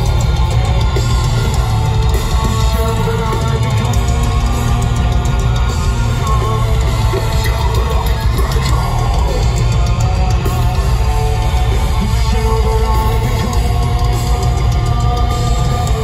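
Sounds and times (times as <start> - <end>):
heavy metal band playing live: 0.0 - 16.0.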